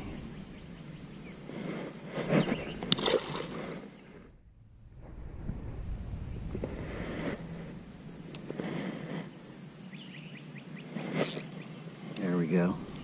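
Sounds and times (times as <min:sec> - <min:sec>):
high-pitched insect trill: 0:00.0 - 0:13.0
rural ambience: 0:00.0 - 0:13.0.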